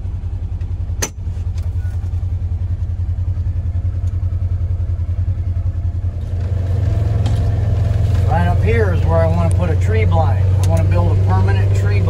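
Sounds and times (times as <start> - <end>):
small vehicle engine running: 0.0 - 12.0.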